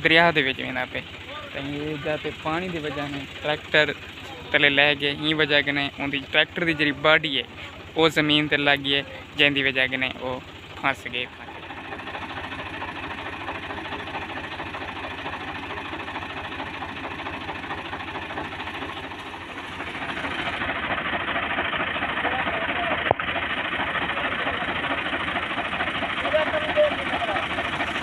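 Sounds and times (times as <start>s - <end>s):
tractor engine knocking: 0.0s - 28.0s.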